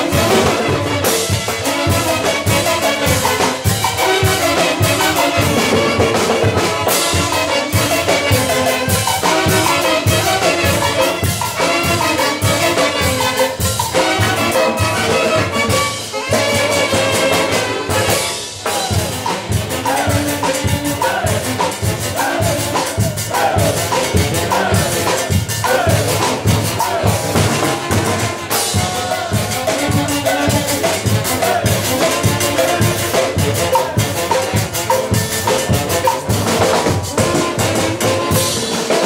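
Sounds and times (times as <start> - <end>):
congas: 0.0 - 39.0
drum kit with timbales: 0.0 - 39.0
saxophones playing latin tune: 0.0 - 39.0.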